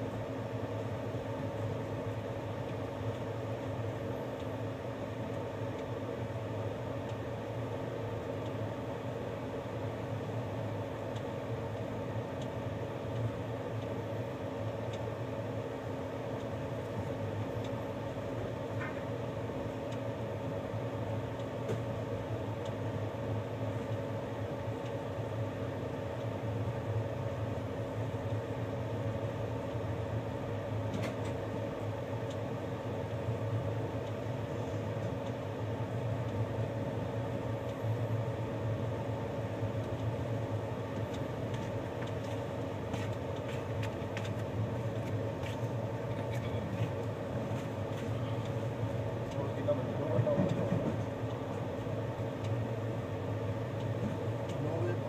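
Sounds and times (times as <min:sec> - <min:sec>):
train running noise with hum: 0:00.0 - 0:55.0.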